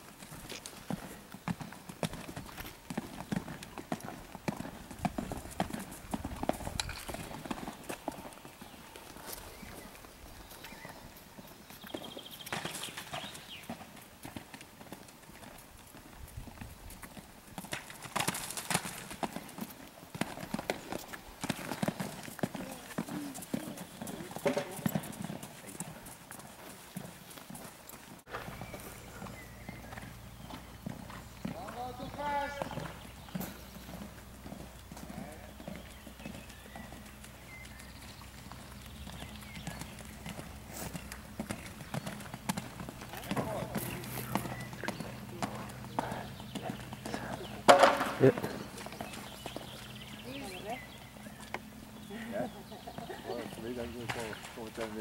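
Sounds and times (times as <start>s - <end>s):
horse hoofbeats on sand: 0.0s - 51.4s.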